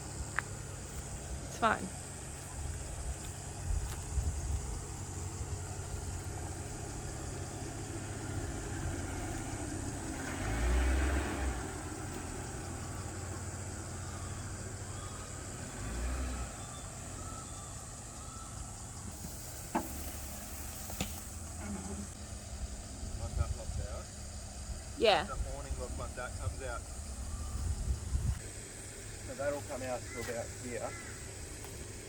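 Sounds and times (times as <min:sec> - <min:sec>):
car engine rumbling at low speed: 0:00.0 - 0:32.0.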